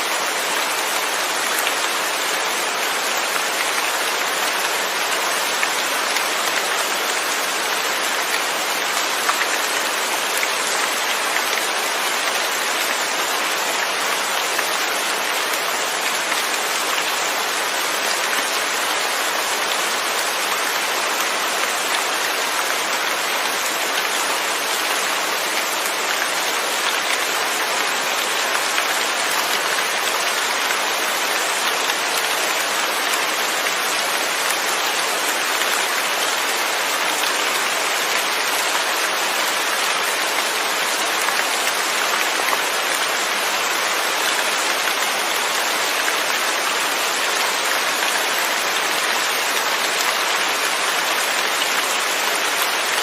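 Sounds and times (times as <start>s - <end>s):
steady rain patter: 0.0s - 53.0s.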